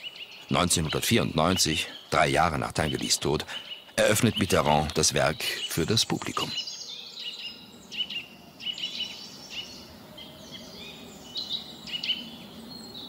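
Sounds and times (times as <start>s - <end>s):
birds chirping: 0.0s - 13.0s
faint background hiss: 0.0s - 13.0s.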